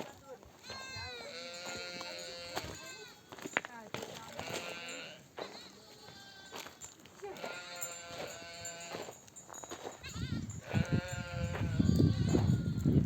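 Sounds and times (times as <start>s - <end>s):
sheep bleating: 0.6s - 3.5s, 4.1s - 9.1s, 10.0s - 13.0s.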